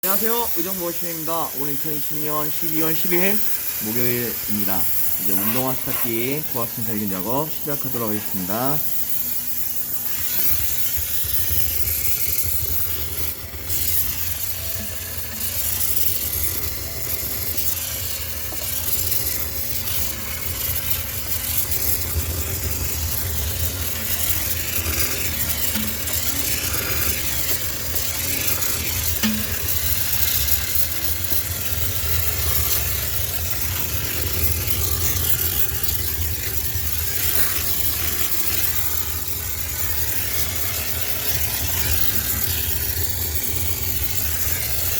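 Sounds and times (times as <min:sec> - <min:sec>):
hissing steam jet: 0:00.0 - 0:44.9
low machine hum: 0:00.0 - 0:44.9.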